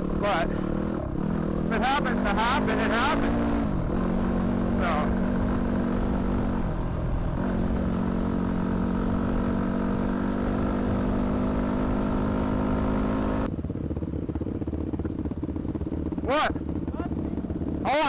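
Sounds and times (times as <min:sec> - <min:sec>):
dirt bike engine running: 0:00.0 - 0:18.0
rough low engine sound: 0:00.0 - 0:18.0.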